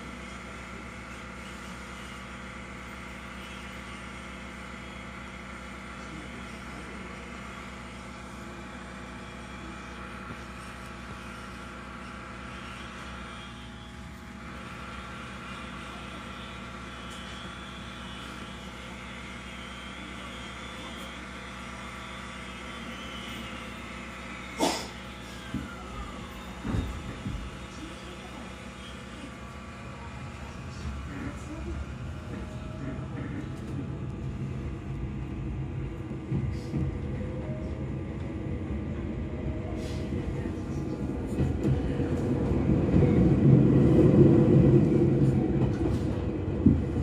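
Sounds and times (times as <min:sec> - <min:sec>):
electric train equipment humming: 0:00.0 - 0:47.0.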